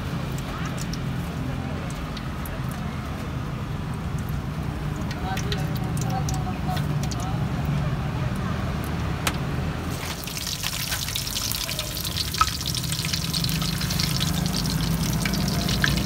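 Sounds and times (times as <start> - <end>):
food frying in hot oil: 0.0 - 9.2, 9.8 - 16.0.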